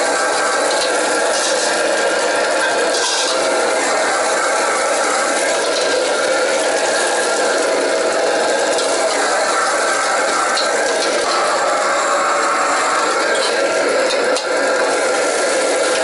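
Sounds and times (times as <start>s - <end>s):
gas wok burner roaring: 0.0s - 16.0s
steel ladle scraping wok: 0.0s - 16.0s.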